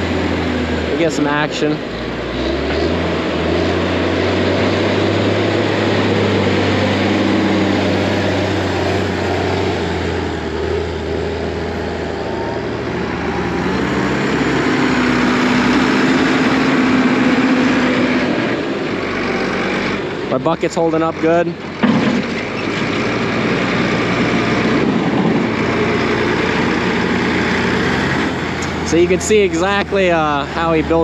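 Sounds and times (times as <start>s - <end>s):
diesel tractor engines droning: 0.0s - 31.0s.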